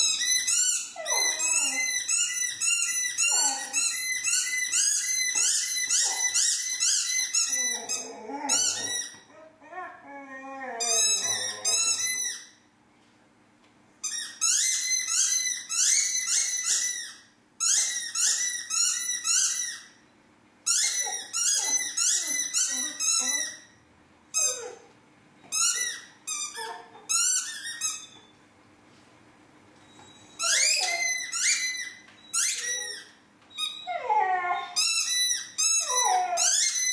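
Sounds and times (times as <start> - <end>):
squeaky dog toy squeaking: 0.0 - 12.6, 14.0 - 20.0, 20.6 - 24.8, 25.4 - 28.3, 30.0 - 36.9.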